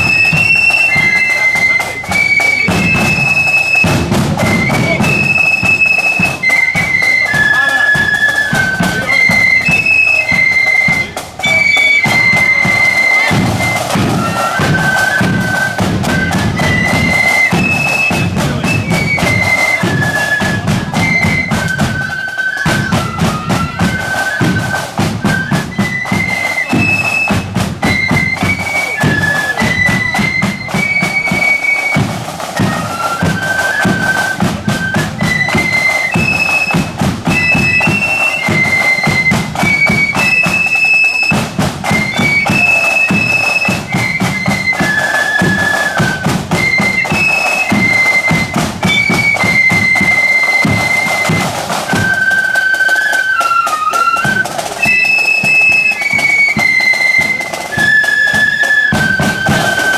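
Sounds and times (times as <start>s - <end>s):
flutes playing melody: 0.0s - 59.9s
steady drum beat: 0.0s - 59.9s.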